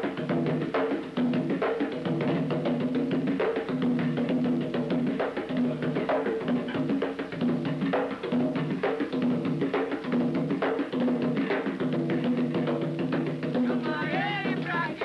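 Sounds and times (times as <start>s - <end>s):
percussion playing quick rhythm: 0.0s - 15.0s.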